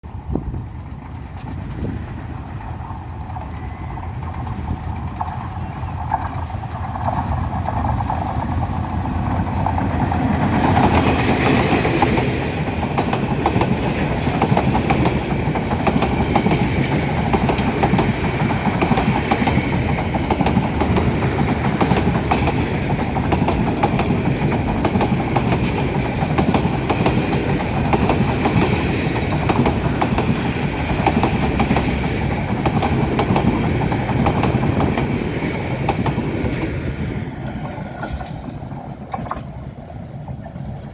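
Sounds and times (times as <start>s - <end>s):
train passing: 0.0s - 40.9s
wheels clattering over rails: 0.3s - 40.9s.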